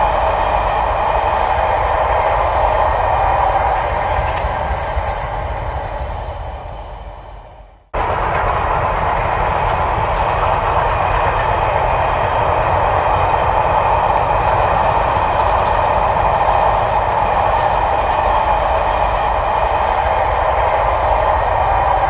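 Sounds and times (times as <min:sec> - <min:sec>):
passing train rumbling: 0:00.0 - 0:22.0.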